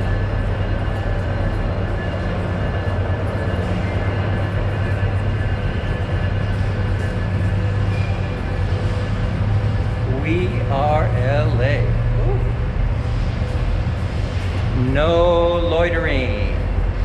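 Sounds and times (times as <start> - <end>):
faint steady tones: 0.0 - 17.0
low hum: 0.0 - 17.0.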